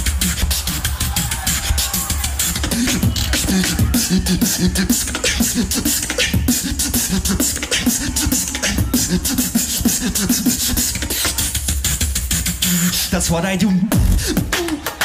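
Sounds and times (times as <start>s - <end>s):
deep bass: 0.0s - 14.6s
beatboxing into microphone: 0.0s - 15.0s.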